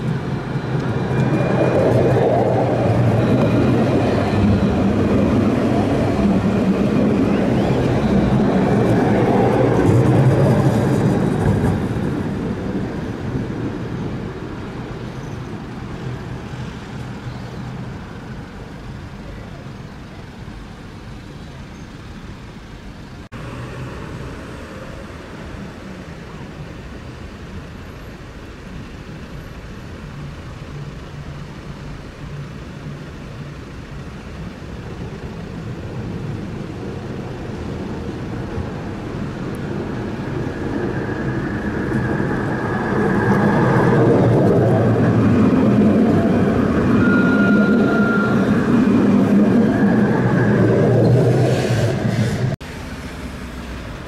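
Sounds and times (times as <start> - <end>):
street traffic: 0.0 - 54.0
tram passing: 0.0 - 54.0.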